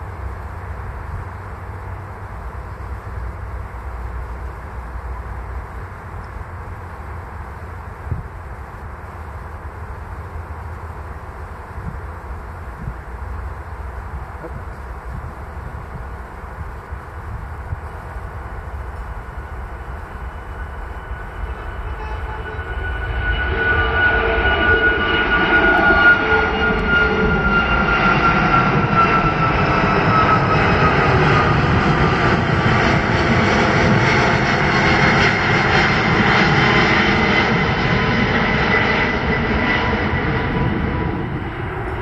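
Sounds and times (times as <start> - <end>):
jet airliner passing overhead: 0.0 - 42.0
jet engine whine: 0.0 - 42.0.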